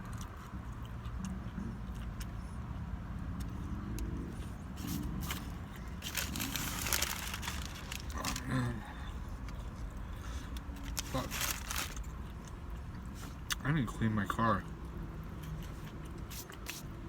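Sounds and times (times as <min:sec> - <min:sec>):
crunching and chewing food: 0:00.0 - 0:17.0.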